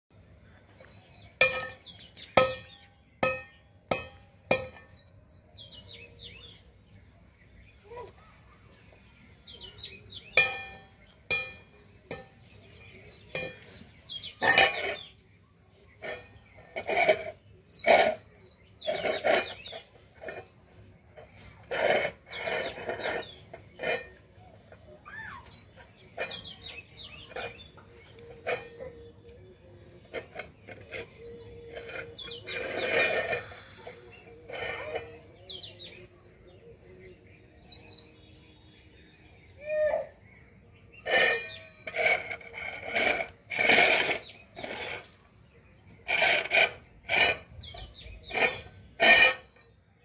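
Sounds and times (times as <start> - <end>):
small birds chirping: 0.1 - 50.0.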